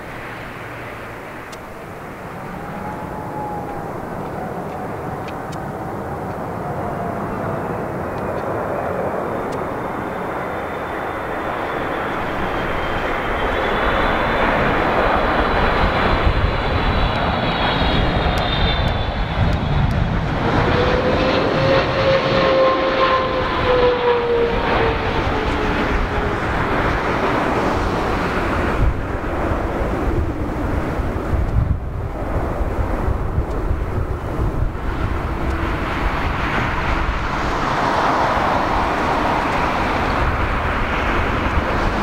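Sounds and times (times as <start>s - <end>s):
jet engines rumbling and whining: 0.0s - 42.0s.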